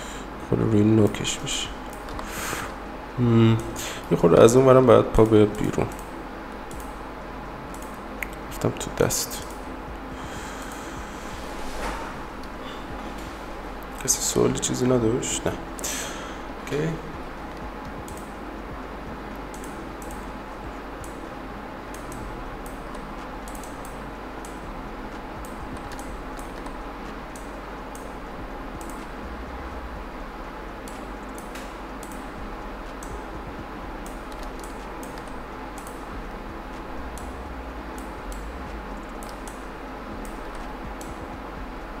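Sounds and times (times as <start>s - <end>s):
steady low hum and hiss: 0.0s - 42.0s.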